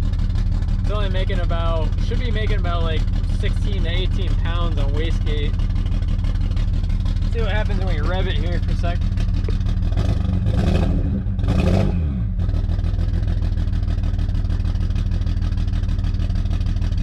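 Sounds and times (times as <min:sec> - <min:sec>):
car engine idling unevenly: 0:00.0 - 0:17.0
car engine revving: 0:00.0 - 0:17.0.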